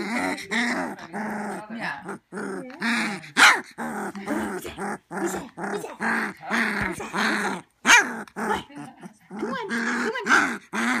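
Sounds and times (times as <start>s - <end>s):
puppy play-growling: 0.0s - 11.0s.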